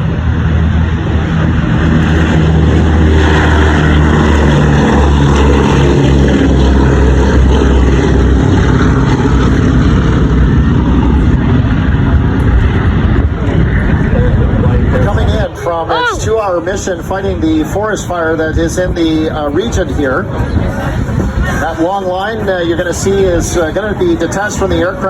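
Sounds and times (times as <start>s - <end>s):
propeller aircraft flying past: 0.0s - 25.0s.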